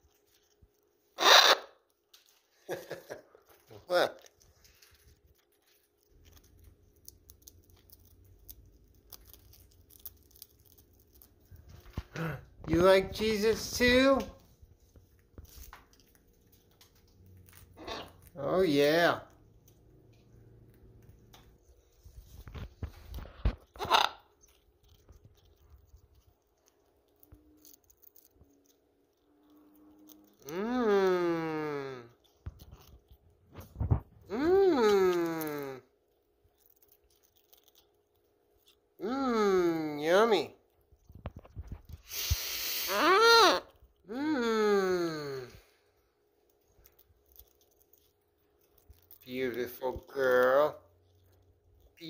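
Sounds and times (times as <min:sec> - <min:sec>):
parrot crunching cracker: 0:00.0 - 0:44.1, 0:44.9 - 0:52.0.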